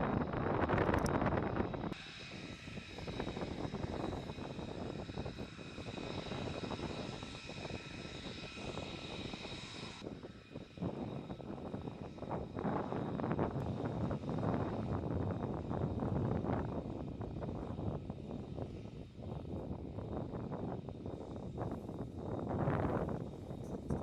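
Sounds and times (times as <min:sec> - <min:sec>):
jet engine roar with turbine whine: 0:00.0 - 0:24.0.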